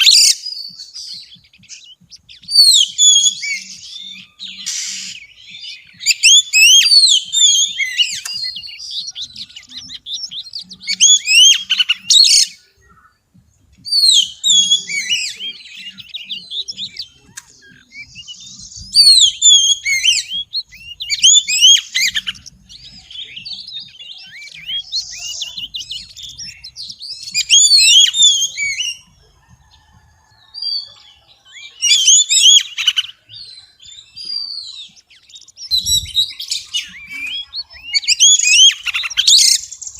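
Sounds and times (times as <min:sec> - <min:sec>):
bird singing whistled phrases: 0:00.0 - 0:13.2, 0:13.8 - 0:29.0, 0:30.7 - 0:39.9.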